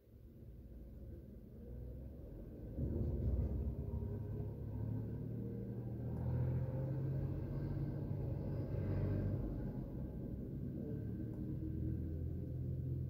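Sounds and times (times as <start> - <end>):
engine rumbling: 0.8 - 13.0.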